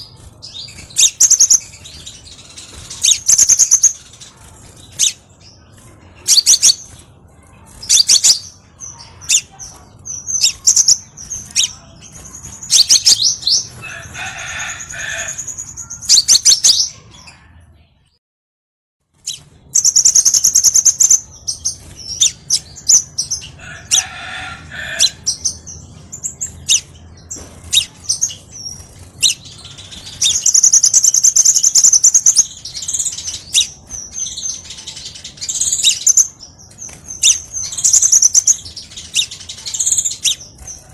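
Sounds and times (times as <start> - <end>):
bird chirping and trilling: 0.0 - 17.6, 19.2 - 40.9.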